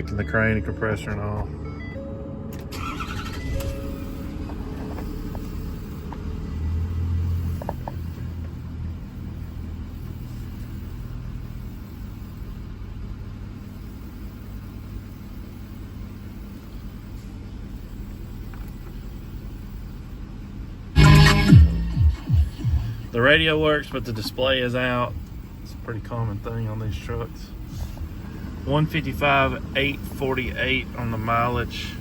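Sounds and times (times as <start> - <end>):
diesel engine starting and idling: 0.0 - 18.4, 20.3 - 32.0.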